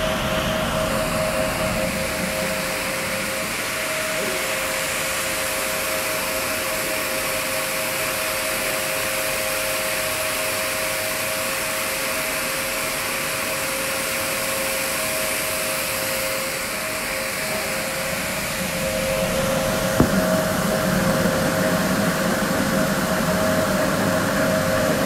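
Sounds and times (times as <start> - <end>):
washing machine noisy rush: 0.0 - 25.0.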